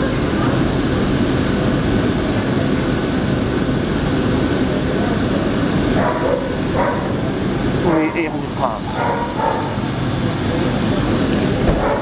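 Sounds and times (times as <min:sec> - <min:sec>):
train passing close by: 0:00.0 - 0:12.0.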